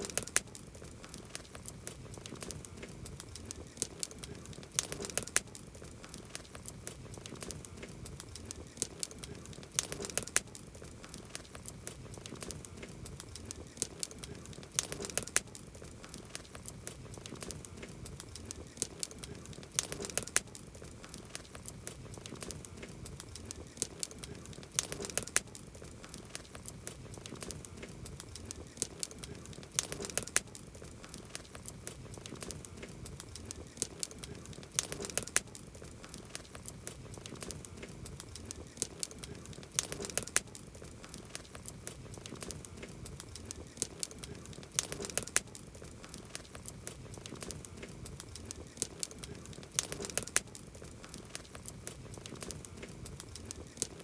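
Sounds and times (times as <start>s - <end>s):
wood campfire crackling and popping: 0.0s - 54.0s.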